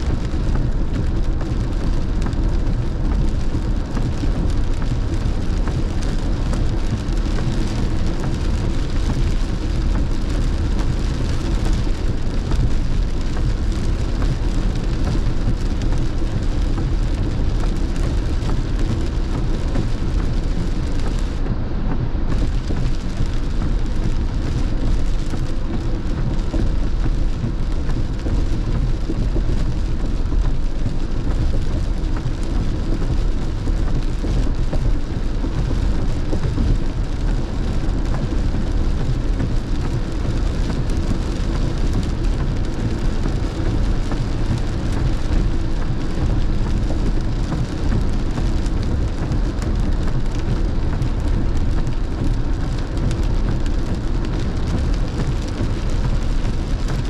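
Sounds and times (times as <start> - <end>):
heavy rain drumming on car: 0.0 - 57.0
tyres rumbling on wet road: 0.0 - 57.0.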